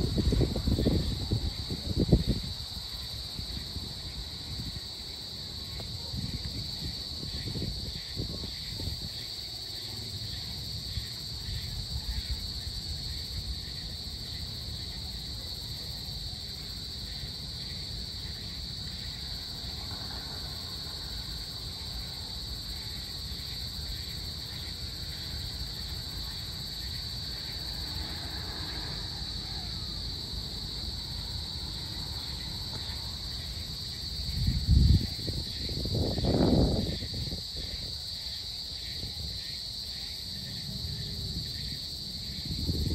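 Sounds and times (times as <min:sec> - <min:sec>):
insects chirping chorus: 0:00.0 - 0:42.9.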